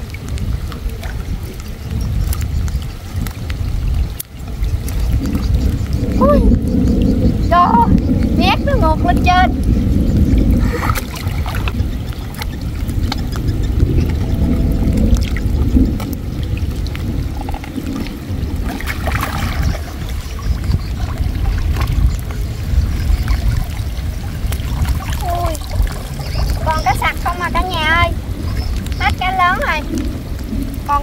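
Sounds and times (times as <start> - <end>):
water sloshing and splashing: 0.0 - 31.0
wind rumble on microphone: 0.0 - 31.0.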